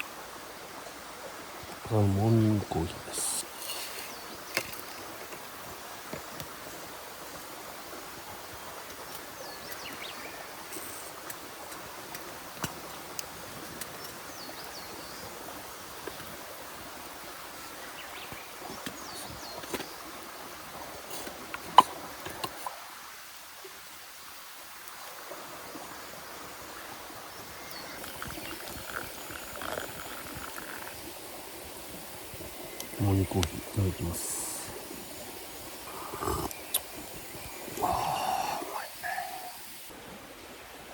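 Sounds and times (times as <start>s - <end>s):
forest stream rushing: 0.0s - 40.9s.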